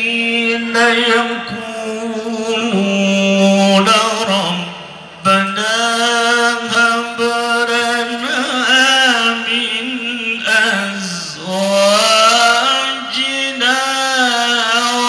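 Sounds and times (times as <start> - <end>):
man chanting through a microphone: 0.0 - 15.0.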